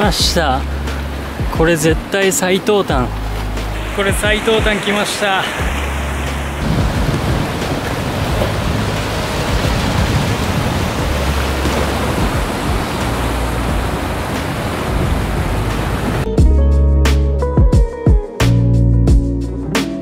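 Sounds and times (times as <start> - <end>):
sea surf breaking on rocks: 0.0 - 16.3.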